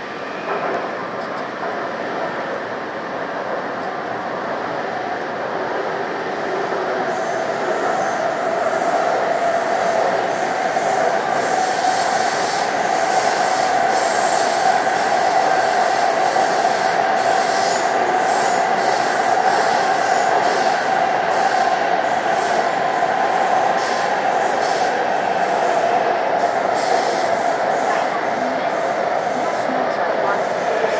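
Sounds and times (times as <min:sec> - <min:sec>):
train running through tunnel: 0:00.0 - 0:30.9.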